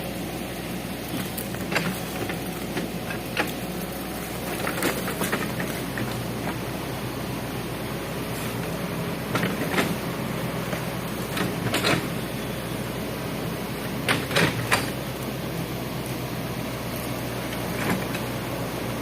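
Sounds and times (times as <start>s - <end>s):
hydraulic excavator running: 0.0s - 19.0s.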